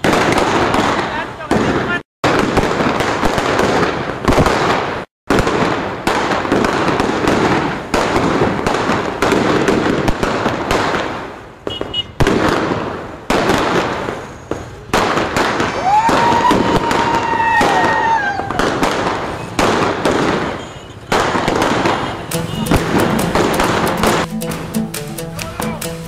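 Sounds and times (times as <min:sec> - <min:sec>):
firecrackers crackling: 0:00.0 - 0:26.0.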